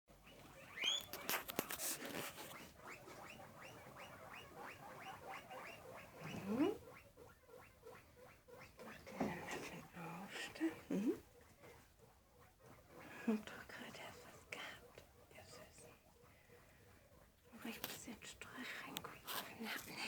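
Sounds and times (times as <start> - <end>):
guinea pigs wheeking: 0.1 - 20.0
rustling: 0.1 - 20.0.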